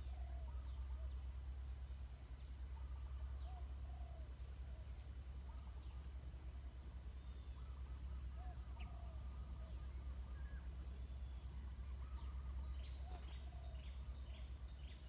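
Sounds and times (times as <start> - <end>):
faint bird calls: 0.0 - 1.6, 2.3 - 6.3, 7.1 - 15.0.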